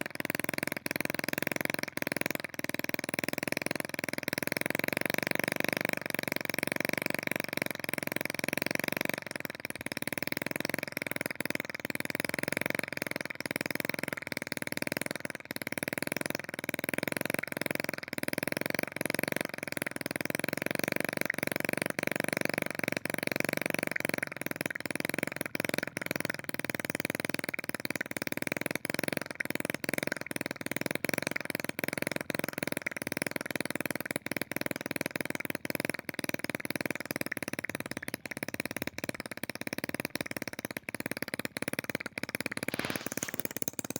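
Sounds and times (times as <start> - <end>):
small two-stroke engine buzzing: 0.0 - 43.9.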